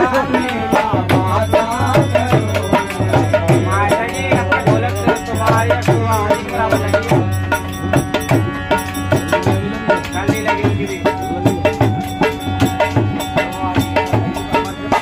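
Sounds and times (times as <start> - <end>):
barrel drum beating: 0.0 - 15.0
harmonium playing folk tune: 0.0 - 15.0.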